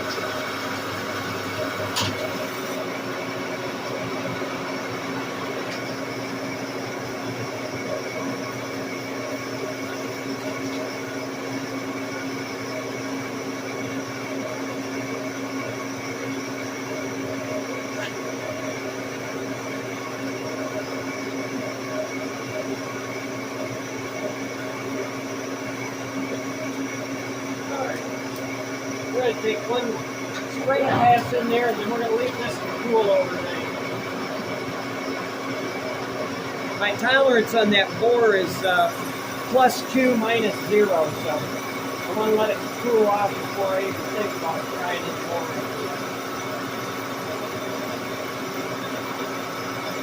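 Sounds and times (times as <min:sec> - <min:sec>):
lathe motor humming: 0:00.0 - 0:50.0.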